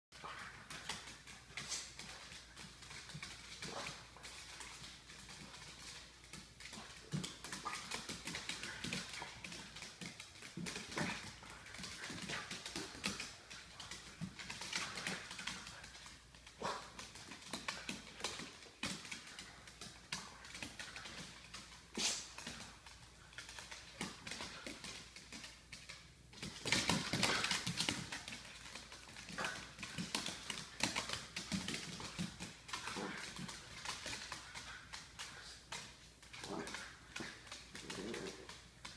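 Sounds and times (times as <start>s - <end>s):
dogs play noises: 0.1s - 38.9s.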